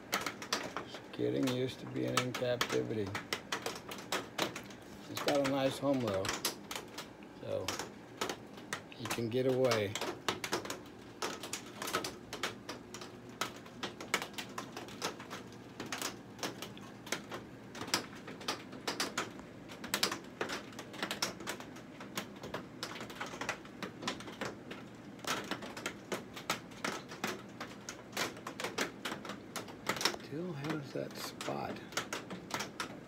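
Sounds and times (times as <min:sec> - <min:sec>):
faint steady hum: 0:00.0 - 0:33.0
rain on greenhouse: 0:00.0 - 0:33.0.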